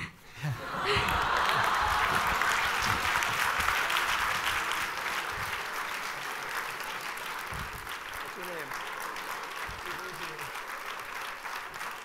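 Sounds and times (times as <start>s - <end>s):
audience applauding: 0.6s - 12.0s.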